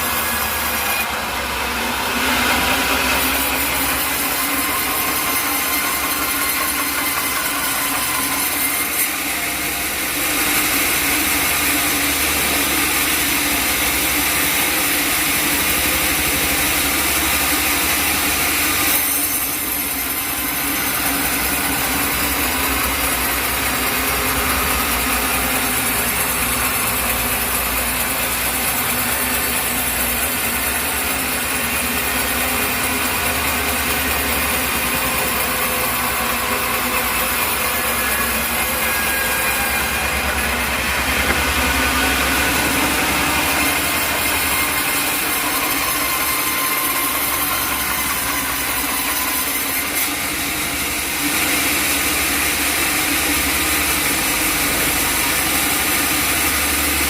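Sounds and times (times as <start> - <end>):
saw blade cutting log: 0.0 - 57.0.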